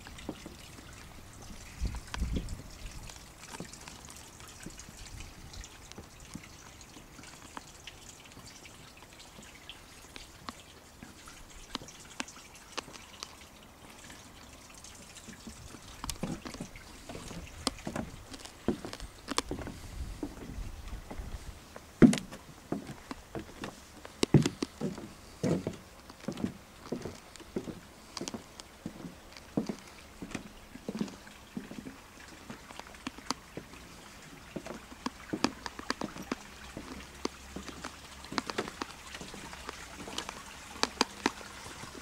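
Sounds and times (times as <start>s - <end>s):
faint steady hiss: 0.0s - 42.0s
footsteps on timber decking: 0.1s - 7.2s, 15.3s - 42.0s.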